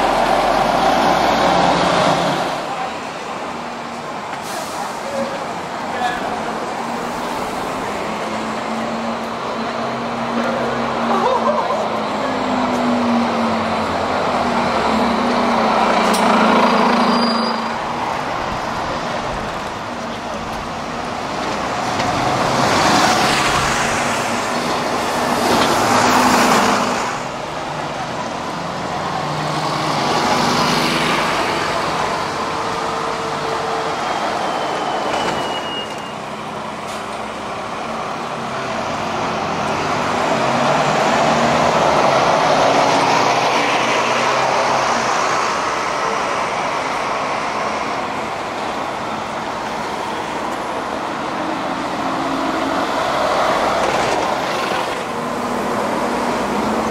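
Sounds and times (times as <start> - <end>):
bus engines running: 0.0 - 56.9
street traffic: 0.0 - 56.9.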